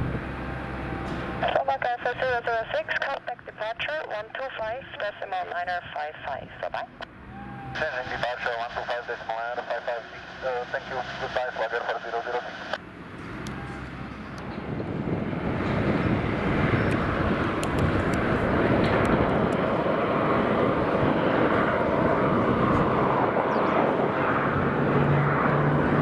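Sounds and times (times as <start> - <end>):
turboprop engines climbing: 0.0 - 26.0.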